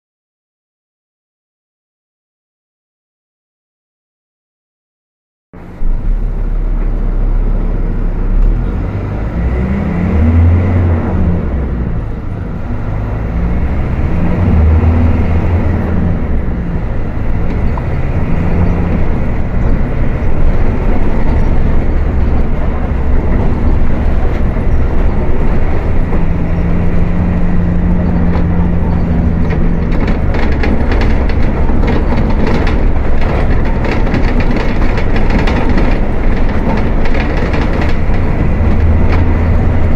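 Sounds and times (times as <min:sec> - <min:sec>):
bus diesel engine revving: 0:05.6 - 0:39.9.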